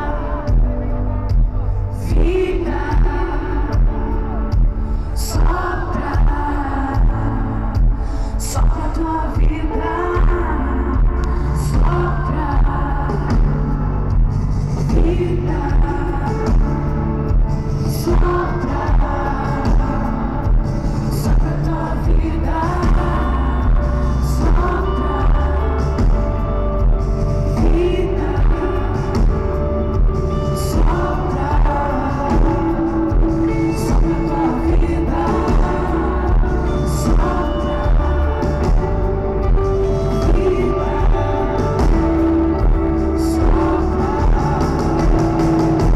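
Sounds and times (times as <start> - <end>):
band playing over a pa: 0.0 - 45.9
vocalist singing: 0.0 - 45.9.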